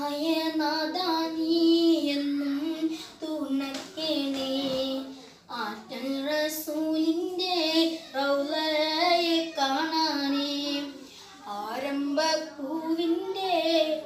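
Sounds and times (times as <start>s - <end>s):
boy singing unaccompanied: 0.0s - 14.0s.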